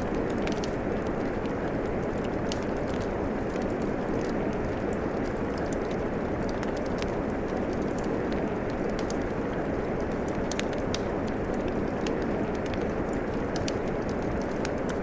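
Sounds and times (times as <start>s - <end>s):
steady rainfall: 0.0s - 15.0s
wood fire crackling: 0.0s - 15.0s.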